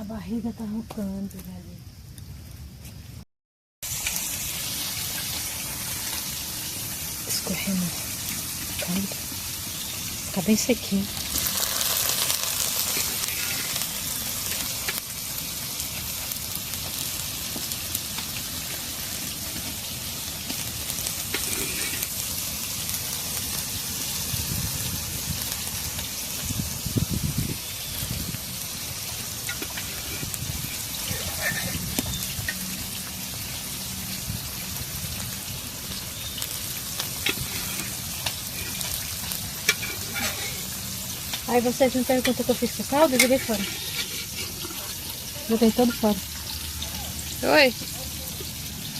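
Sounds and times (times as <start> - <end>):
food sizzling in a pan: 3.8 - 48.9.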